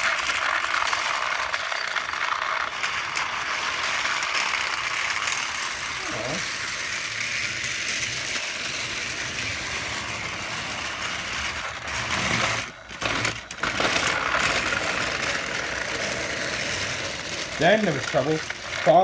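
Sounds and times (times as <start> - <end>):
toy train motor whirring: 0.0 - 19.0.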